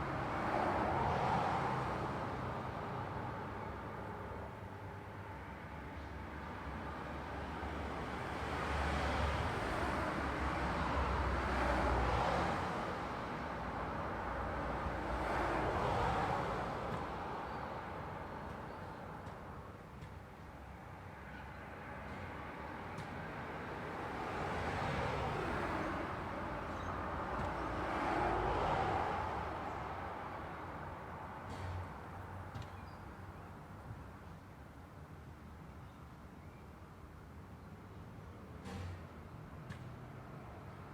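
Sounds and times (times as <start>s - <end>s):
road traffic hiss and rumble: 0.0s - 40.9s.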